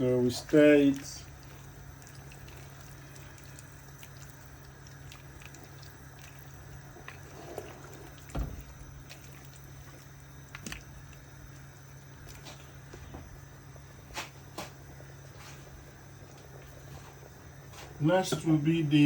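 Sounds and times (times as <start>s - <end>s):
soup bubbling in a pot: 0.0s - 18.0s.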